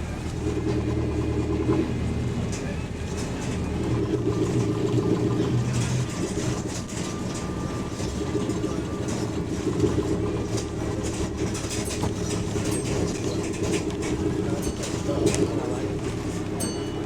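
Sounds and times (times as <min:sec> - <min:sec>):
bodywork rattles and clicks: 0:00.0 - 0:17.0
bus diesel engine drone: 0:00.0 - 0:17.0.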